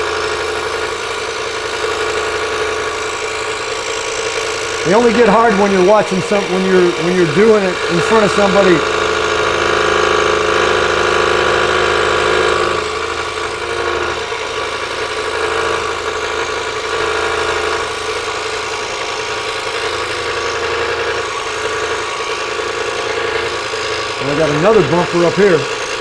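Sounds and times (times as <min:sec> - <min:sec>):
scroll saw humming: 0:00.0 - 0:26.0.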